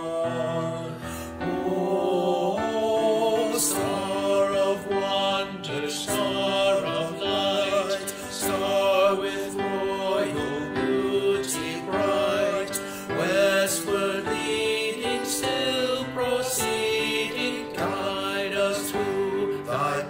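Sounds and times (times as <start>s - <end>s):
men singing a hymn in harmony: 0.0s - 20.0s.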